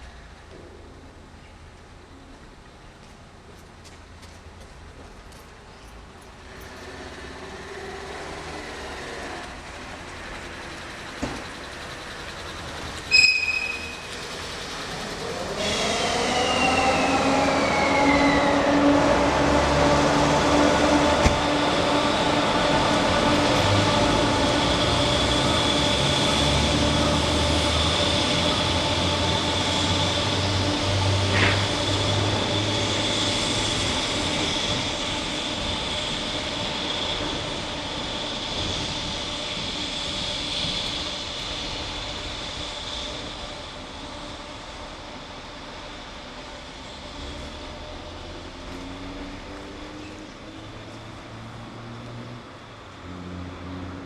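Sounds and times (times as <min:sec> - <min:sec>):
electric train motor whine: 0:06.8 - 0:51.4.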